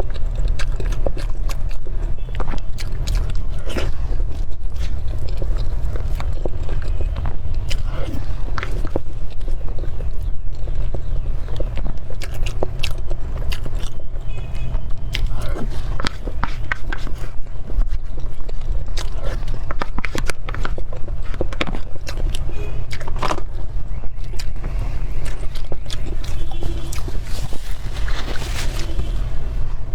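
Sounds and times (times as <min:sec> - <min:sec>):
biting cake: 0:00.0 - 0:29.2
wet chewing and mouth smacks: 0:00.0 - 0:29.9.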